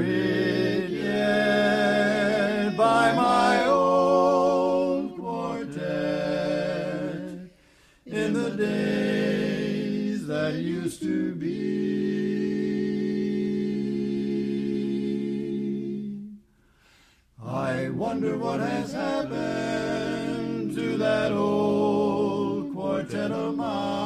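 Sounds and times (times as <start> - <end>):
quartet singing in close harmony: 0.0 - 16.3, 17.4 - 24.0.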